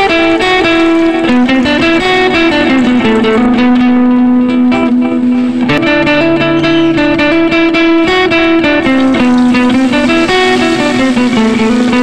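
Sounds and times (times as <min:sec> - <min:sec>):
instrumental music with plucked notes: 0:00.0 - 0:12.0.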